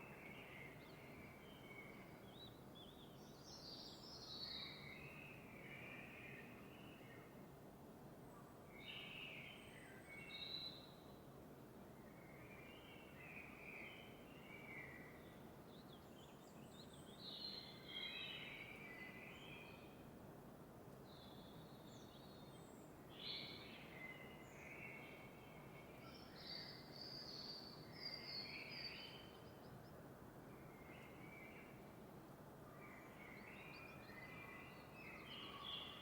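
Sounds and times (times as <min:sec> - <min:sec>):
low steady background hiss: 0:00.0 - 0:36.0.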